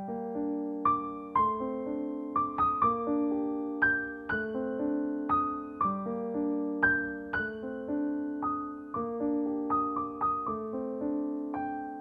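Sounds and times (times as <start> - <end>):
background piano music: 0.0 - 12.0.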